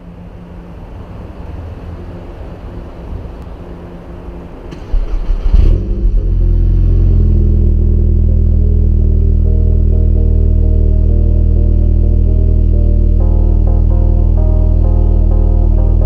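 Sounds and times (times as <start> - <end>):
car exhaust rumble and drone: 0.0 - 16.0.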